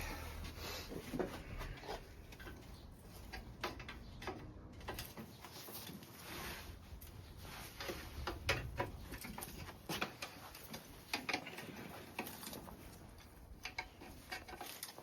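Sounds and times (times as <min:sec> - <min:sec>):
hand tools clicking and tapping: 0:00.0 - 0:06.1, 0:07.8 - 0:15.0.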